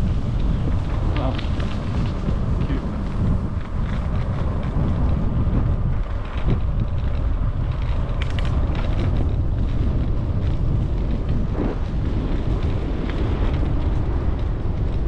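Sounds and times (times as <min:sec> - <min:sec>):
bicycle rolling noise: 0:00.0 - 0:15.0
wind buffeting microphone: 0:00.0 - 0:15.0.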